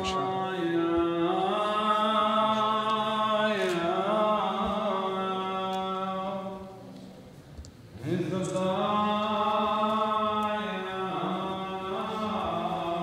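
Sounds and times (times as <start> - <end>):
devotional chanting: 0.0 - 13.0.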